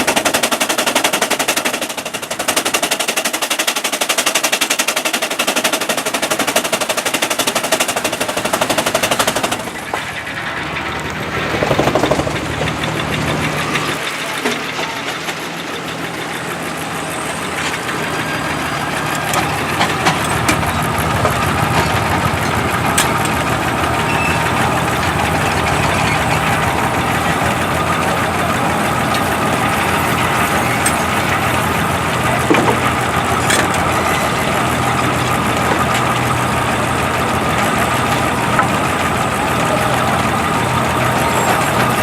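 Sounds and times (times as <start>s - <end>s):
steam engine driving sawmill: 0.0s - 42.0s
steady machine whine: 6.0s - 42.0s.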